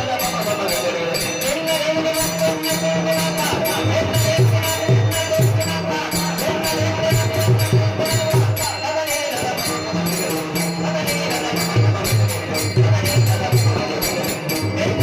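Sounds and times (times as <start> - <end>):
jingling hand cymbals: 0.0 - 15.0.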